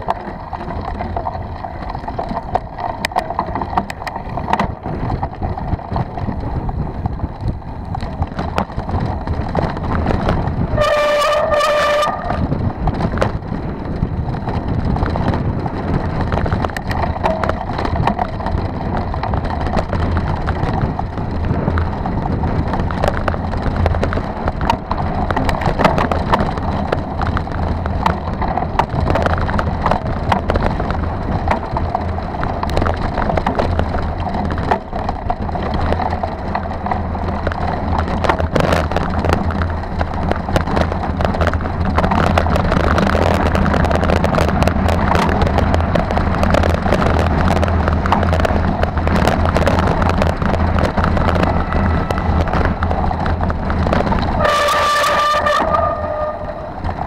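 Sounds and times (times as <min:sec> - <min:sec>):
bike rattling: 0:00.0 - 0:57.0
bike tyre rumble: 0:00.0 - 0:57.0.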